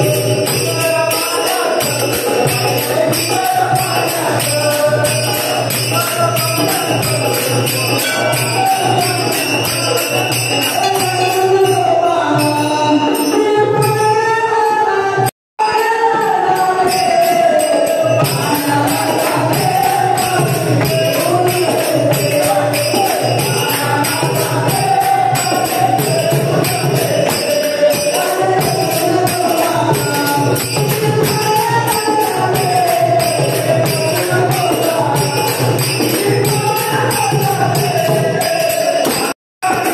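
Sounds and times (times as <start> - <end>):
devotional singing: 0.0 - 39.9
jingling percussion: 0.0 - 39.9.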